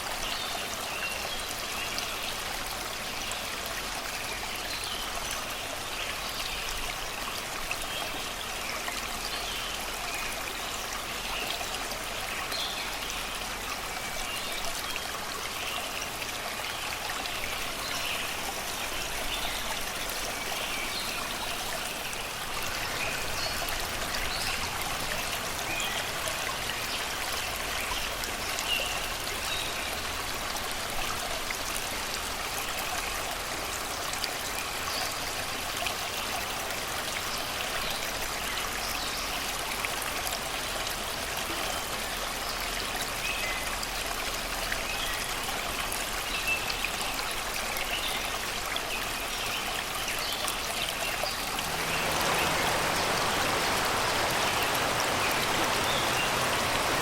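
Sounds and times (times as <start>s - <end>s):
river water rushing over rocks: 0.0s - 41.4s, 48.3s - 57.0s.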